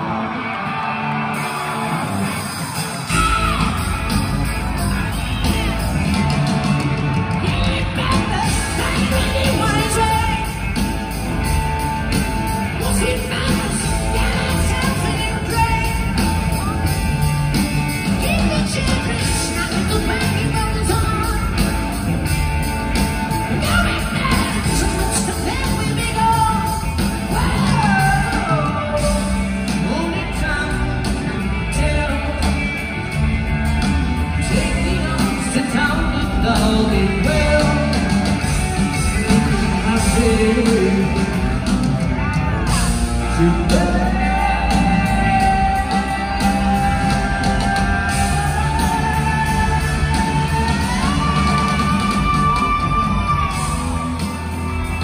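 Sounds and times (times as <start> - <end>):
drums: 0.0 - 55.0
electric guitars: 0.0 - 55.0.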